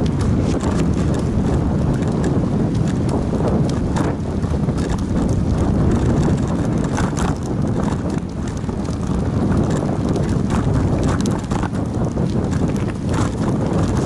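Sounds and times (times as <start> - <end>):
bicycle knocks and rattles: 0.0 - 14.0
bicycle tyres rumbling on concrete: 0.0 - 14.0.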